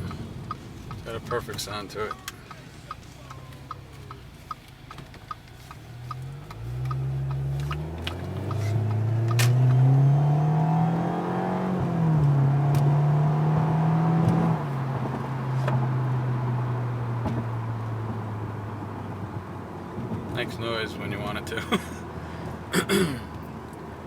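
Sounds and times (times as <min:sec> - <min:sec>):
car engine accelerating: 0:00.0 - 0:22.7.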